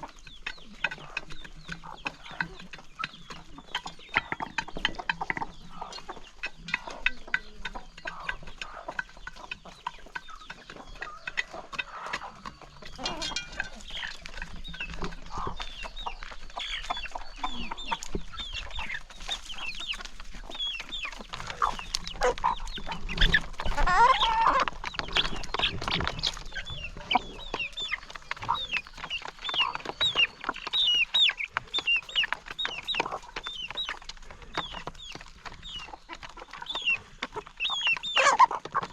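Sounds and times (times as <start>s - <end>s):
chickens clucking and calling: 0.0s - 38.9s.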